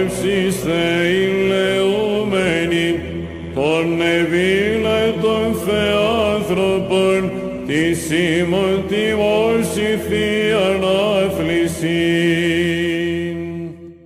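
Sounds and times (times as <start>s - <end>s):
chant over low drone: 0.0s - 14.0s.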